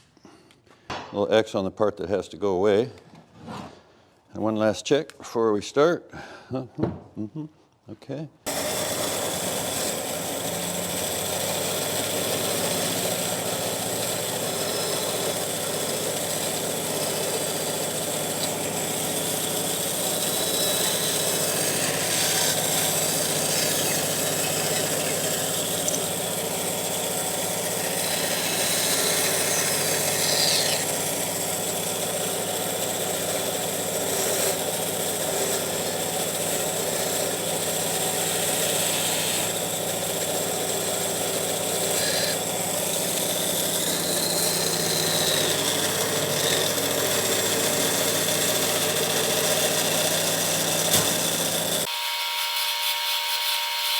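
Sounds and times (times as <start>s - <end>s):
scraping of wood being cut: 8.5s - 51.9s
woodworking machine humming: 8.5s - 53.9s.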